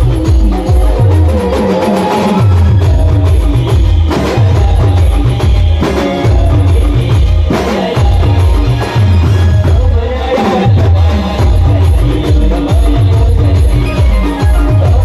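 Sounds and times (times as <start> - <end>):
driving drum beat: 0.0 - 15.0.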